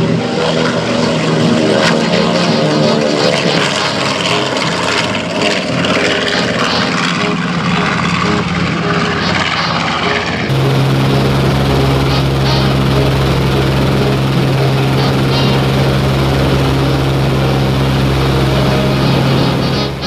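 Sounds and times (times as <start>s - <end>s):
propeller plane engines roaring: 0.0s - 20.0s
engine drone inside cabin: 1.4s - 20.0s.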